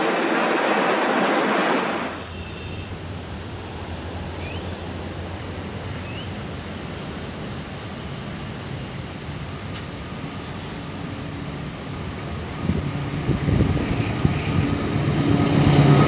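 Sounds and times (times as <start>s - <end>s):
locomotive passing rumble: 0.0s - 16.0s.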